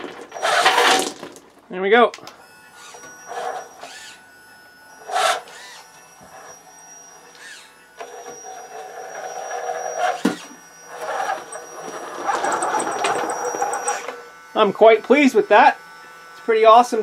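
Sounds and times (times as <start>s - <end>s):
small electric motor whining: 0.0s - 1.4s, 2.2s - 17.0s
drive motor and gears whirring: 2.2s - 16.6s.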